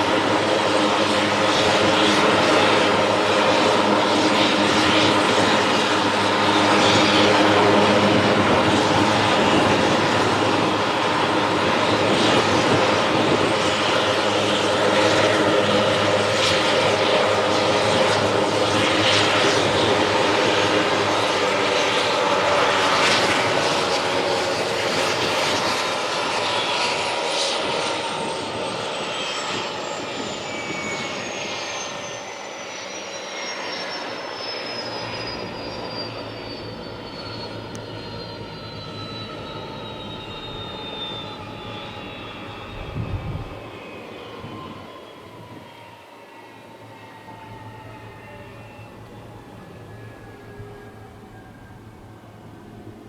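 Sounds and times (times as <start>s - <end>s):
helicopter turbine engines and rotor: 0.0s - 53.0s.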